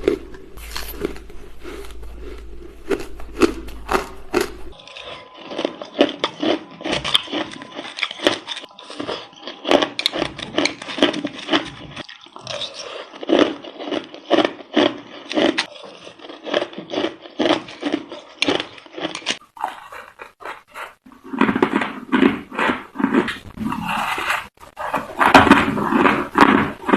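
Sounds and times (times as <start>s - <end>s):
ice crunching between teeth: 0.0s - 26.9s.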